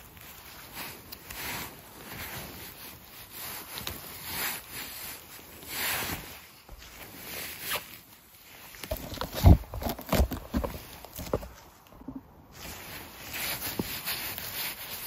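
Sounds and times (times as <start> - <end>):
hand rustling through grass: 0.0 - 15.0.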